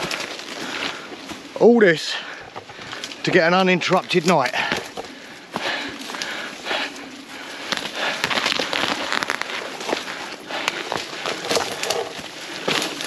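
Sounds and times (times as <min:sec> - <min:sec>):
footsteps through dry vegetation: 0:02.5 - 0:13.0.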